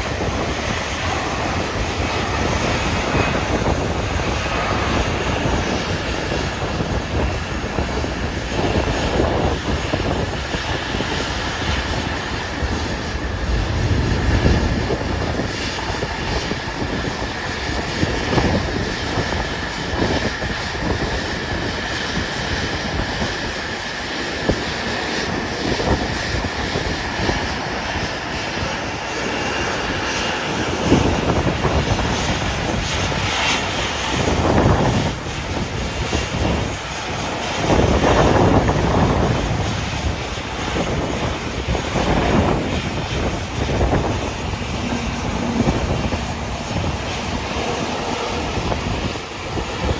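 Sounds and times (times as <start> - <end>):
jet engine whine: 0.0 - 49.9
wind buffeting microphone: 0.0 - 49.9.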